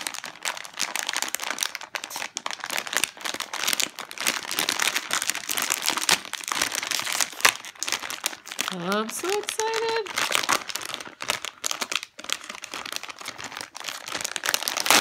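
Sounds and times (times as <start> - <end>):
foil packaging crinkling: 0.0 - 15.0.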